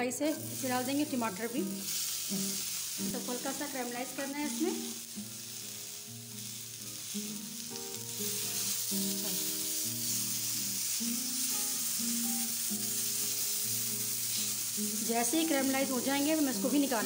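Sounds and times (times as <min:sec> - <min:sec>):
soft background music: 0:00.0 - 0:17.0
vegetables sizzling in oil: 0:00.0 - 0:17.0.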